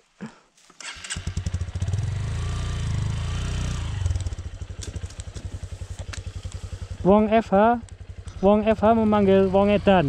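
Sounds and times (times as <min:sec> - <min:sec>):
dirt bike engine idling: 0:01.2 - 0:10.0.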